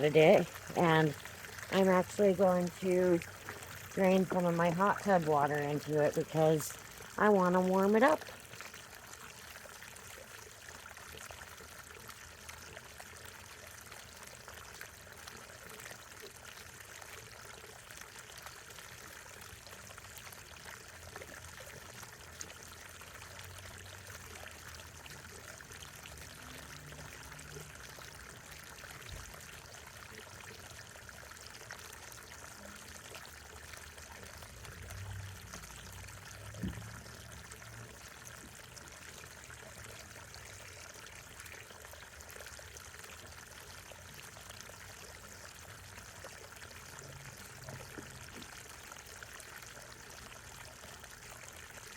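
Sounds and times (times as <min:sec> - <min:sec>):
water trickling into fountain basin: 0:00.0 - 0:51.9.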